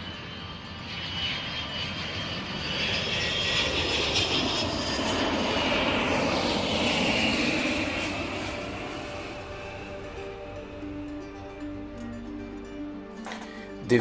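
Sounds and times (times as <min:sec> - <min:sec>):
jet airliner roar with engine whine: 0:00.0 - 0:13.9.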